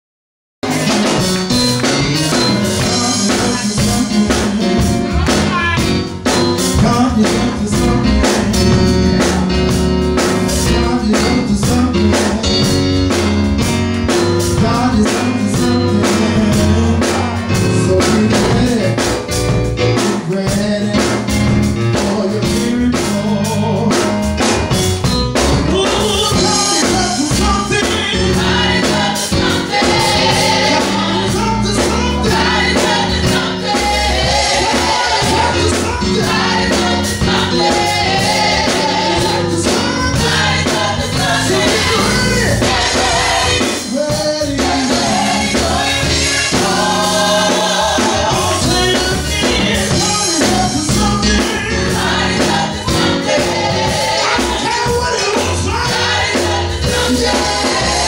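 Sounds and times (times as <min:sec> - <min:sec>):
band with percussive beat: 0:00.6 - 0:58.0
gospel singers: 0:00.6 - 0:58.0.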